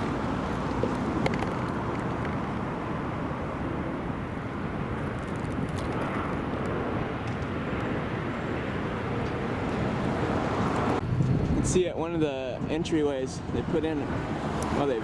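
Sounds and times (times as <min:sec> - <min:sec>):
distant engines rumbling: 0:00.0 - 0:15.0.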